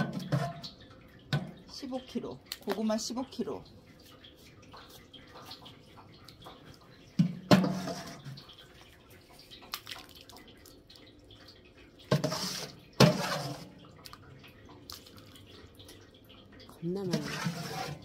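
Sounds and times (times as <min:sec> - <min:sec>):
liquid dripping: 0:00.0 - 0:18.0.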